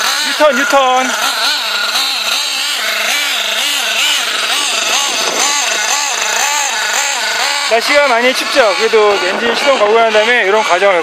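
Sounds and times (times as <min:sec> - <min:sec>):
nitro model car engine: 0:00.0 - 0:11.0.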